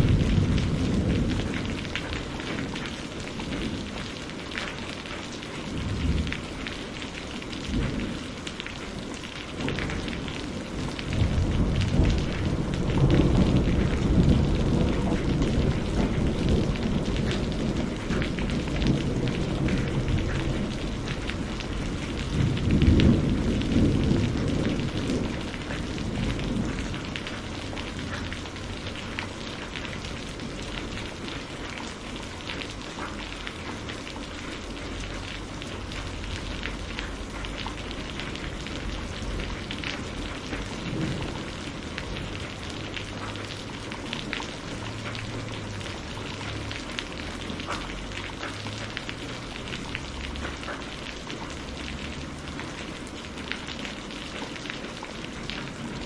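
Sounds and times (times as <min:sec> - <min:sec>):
thunder rumbling: 0:00.0 - 0:50.6
steady rain falling: 0:00.0 - 0:56.0.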